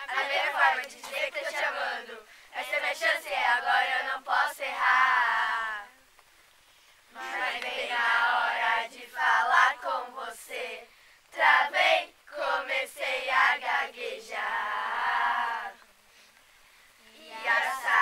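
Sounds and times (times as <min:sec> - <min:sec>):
group of young voices singing: 0:00.0 - 0:06.0, 0:07.1 - 0:15.9, 0:17.1 - 0:18.0.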